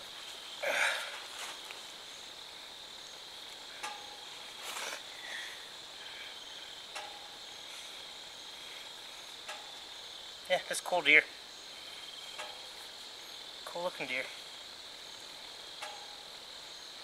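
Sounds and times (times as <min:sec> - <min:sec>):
rustling on grass: 0:00.0 - 0:16.6
crickets chirring: 0:00.0 - 0:17.0.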